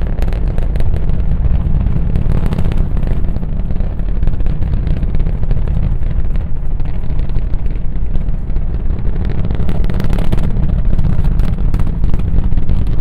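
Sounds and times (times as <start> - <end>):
rocket engines rumbling and crackling: 0.0 - 13.0.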